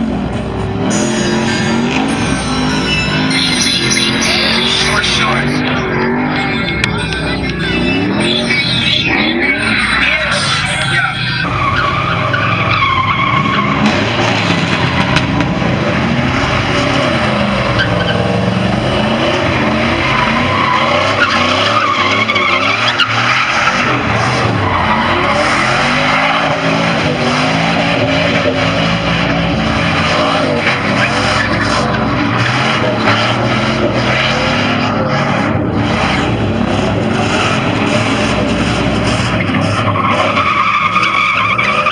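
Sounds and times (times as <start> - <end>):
engine revving: 0.0 - 41.9
tires squealing and skidding: 0.0 - 41.9.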